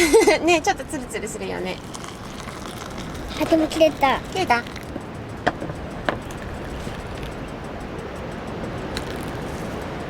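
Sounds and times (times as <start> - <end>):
steady rushing noise: 0.0 - 10.0
soft background music: 0.4 - 10.0.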